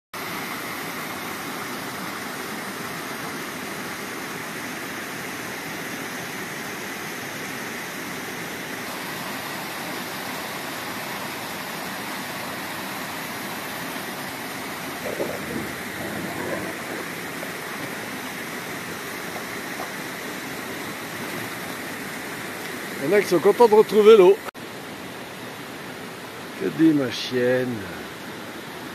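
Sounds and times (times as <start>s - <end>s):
stream rushing water: 0.2s - 28.9s.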